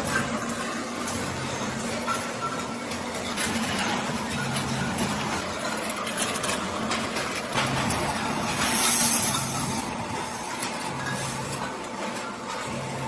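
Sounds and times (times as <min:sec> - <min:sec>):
factory machinery clattering: 0:00.0 - 0:13.0.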